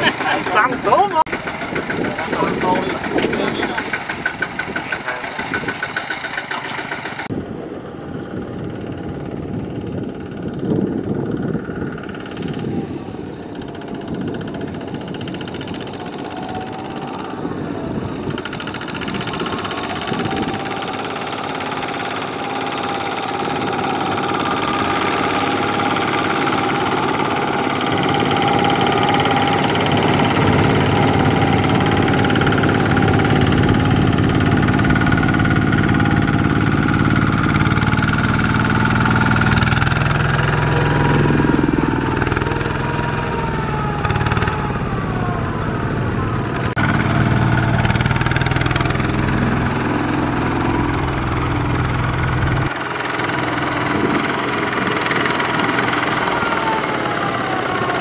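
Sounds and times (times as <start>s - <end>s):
diesel engine knocking under load: 0.0s - 7.3s, 8.6s - 58.0s.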